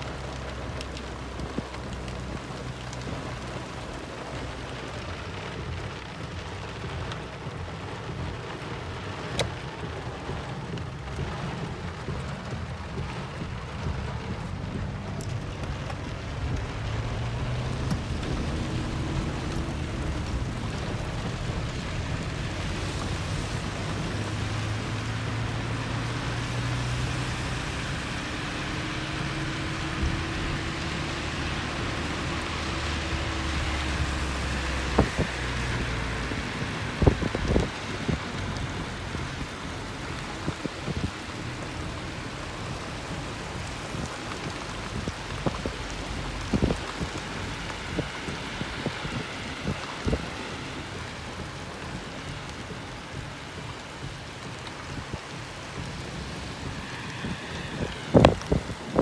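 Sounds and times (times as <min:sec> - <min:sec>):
low engine hum: 0:00.0 - 0:59.0
rain hissing: 0:00.0 - 0:59.0
wet tyre noise: 0:00.0 - 0:59.0.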